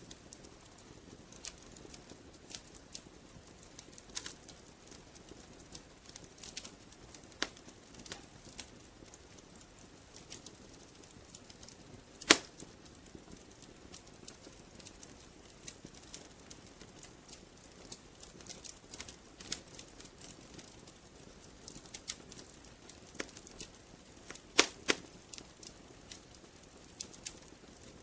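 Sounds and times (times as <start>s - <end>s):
faint low hiss: 0.0s - 28.0s
wood fire crackling and popping: 0.0s - 28.0s.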